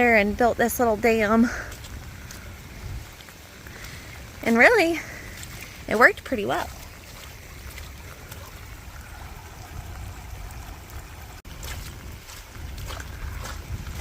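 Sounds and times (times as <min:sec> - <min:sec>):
floodwater running: 0:00.0 - 0:14.0
wind rumbling on microphone: 0:00.0 - 0:14.0.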